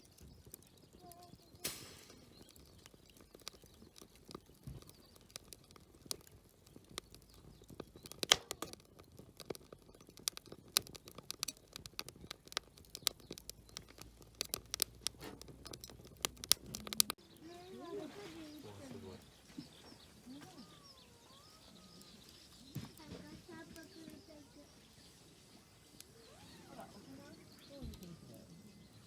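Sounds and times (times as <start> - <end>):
campfire crackling: 0.0 - 29.0
sharp fire snaps: 0.0 - 29.0.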